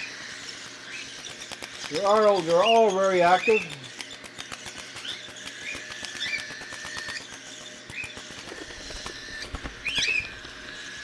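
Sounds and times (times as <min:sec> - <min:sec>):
cockatiels chirping softly: 0:00.8 - 0:10.4.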